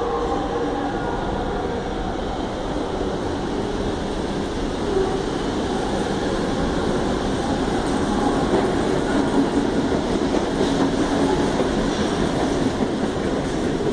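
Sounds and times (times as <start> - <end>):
electric train passing: 0.0 - 13.9.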